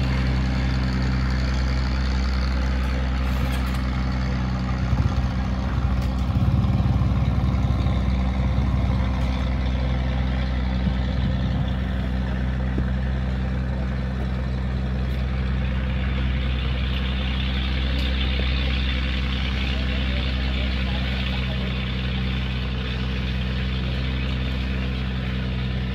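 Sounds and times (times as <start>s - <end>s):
engine humming: 0.0s - 25.9s.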